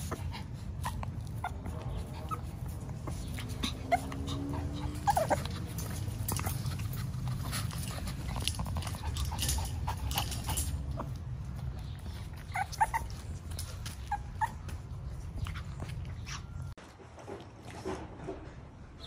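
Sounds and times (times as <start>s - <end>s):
puppy yipping: 0.0s - 11.2s, 11.8s - 16.7s
light clicks and scratches: 0.0s - 16.7s
puppy whining: 0.0s - 16.8s.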